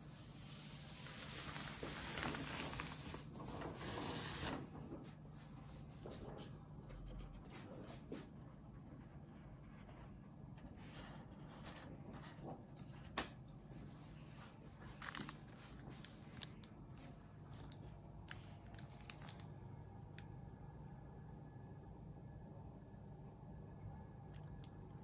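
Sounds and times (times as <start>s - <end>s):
low steady hum: 4.5s - 25.0s.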